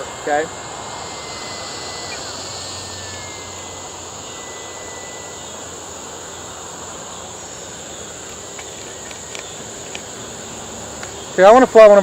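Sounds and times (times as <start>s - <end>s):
crickets chirring: 0.0s - 12.0s
faint electric motor whine: 0.0s - 12.0s.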